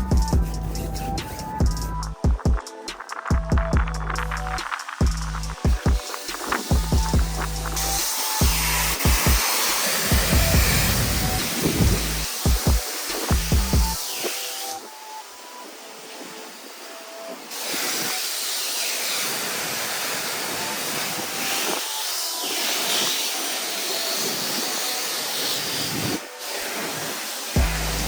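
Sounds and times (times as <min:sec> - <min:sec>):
pressure washer spray hissing: 0:00.2 - 0:15.2, 0:16.4 - 0:28.0.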